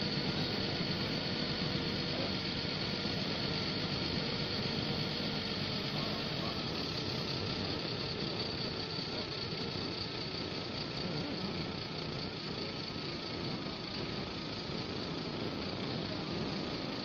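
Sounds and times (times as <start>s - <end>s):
forklift engine running: 0.0s - 17.0s.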